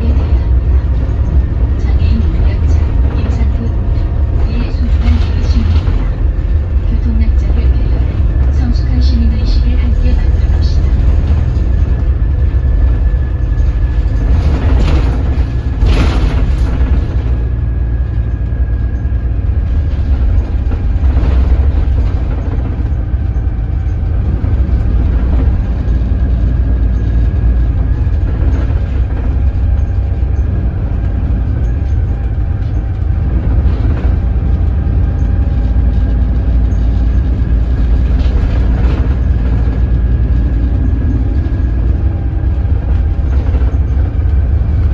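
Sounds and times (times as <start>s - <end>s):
bus diesel engine rumble: 0.0s - 44.9s
short rattle: 0.0s - 44.9s.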